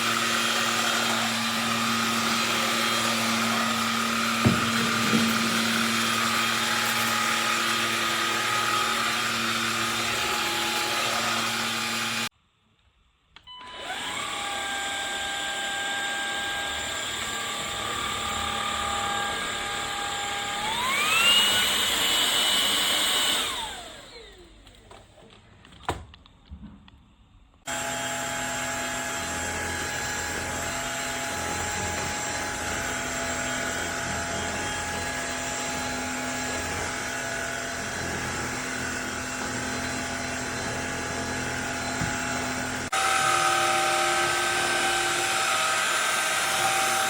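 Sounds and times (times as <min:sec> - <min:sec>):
vacuum cleaner motor whining: 0:00.0 - 0:12.3, 0:13.5 - 0:25.0, 0:27.7 - 0:47.0.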